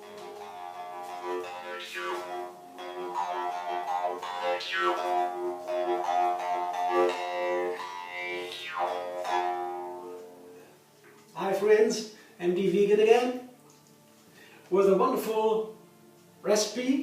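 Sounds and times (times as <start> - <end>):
string instrument music: 0.0 - 17.0.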